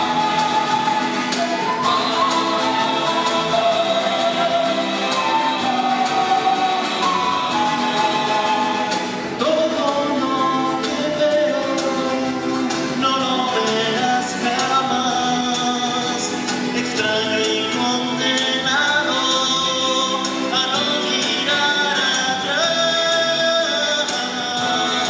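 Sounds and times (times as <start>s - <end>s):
acoustic bass guitar: 0.0s - 25.0s
men singing: 0.0s - 25.0s
strummed acoustic guitars: 0.0s - 25.0s.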